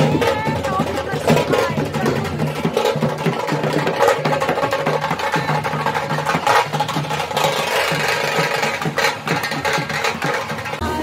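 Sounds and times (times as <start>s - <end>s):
crowd noise: 0.0s - 11.0s
drums playing a repeating beat: 0.0s - 11.0s.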